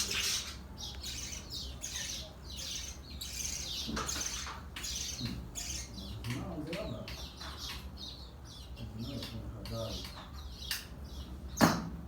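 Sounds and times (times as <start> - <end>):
lovebirds chirping: 0.0 - 11.8.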